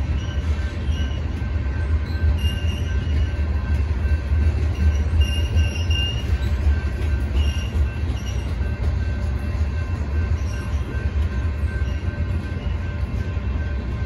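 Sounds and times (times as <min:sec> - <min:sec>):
wheel squeals: 0:00.0 - 0:13.9
freight train rumbling past: 0:00.0 - 0:14.0.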